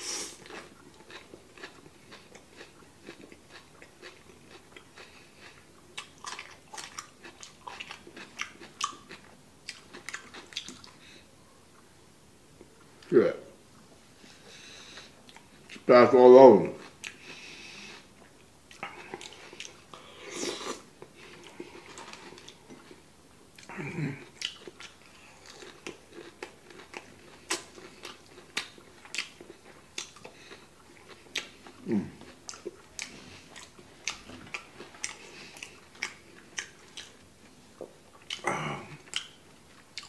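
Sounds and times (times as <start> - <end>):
man chewing food: 0.0 - 13.1, 13.7 - 15.9, 16.7 - 40.0.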